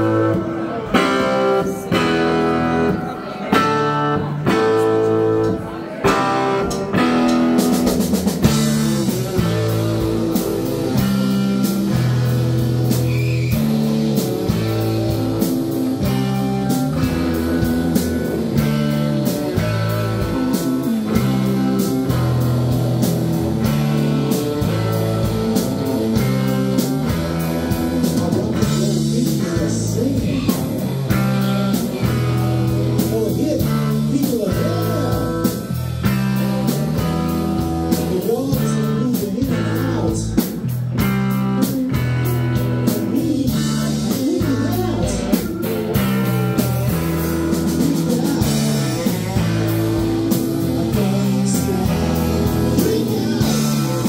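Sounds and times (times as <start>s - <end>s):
drum kit steady beat: 0.0s - 54.0s
live rock band playing: 0.0s - 54.0s.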